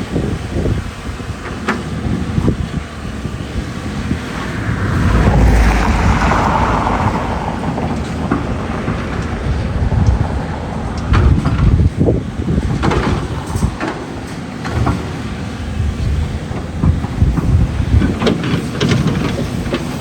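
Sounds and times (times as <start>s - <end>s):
excavator engine rumble: 0.0s - 20.0s.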